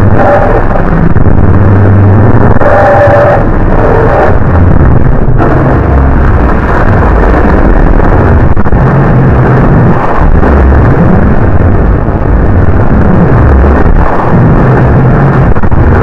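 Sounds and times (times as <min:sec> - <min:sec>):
distorted crackling roar: 0:00.0 - 0:16.0
low droning tones: 0:00.0 - 0:16.0.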